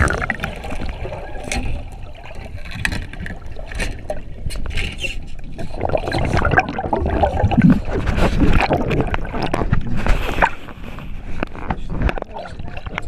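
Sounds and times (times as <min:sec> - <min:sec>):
water splashing around a boat: 0:00.0 - 0:13.0.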